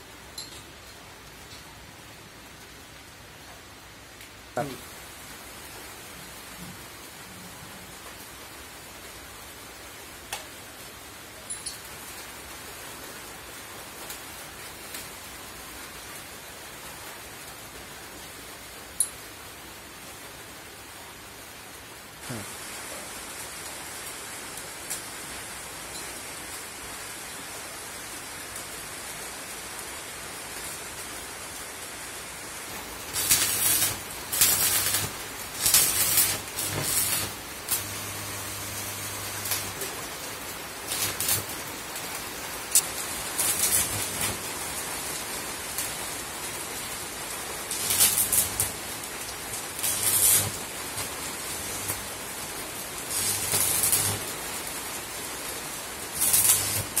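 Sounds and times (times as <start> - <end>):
faint steady hiss: 0.0 - 57.0
arc welding crackling hiss: 4.2 - 15.3, 21.4 - 57.0.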